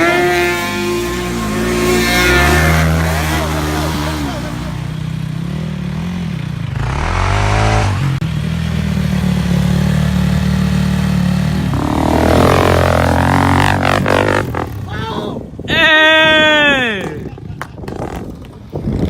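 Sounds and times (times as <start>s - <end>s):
off-road vehicle engine: 0.0s - 19.0s.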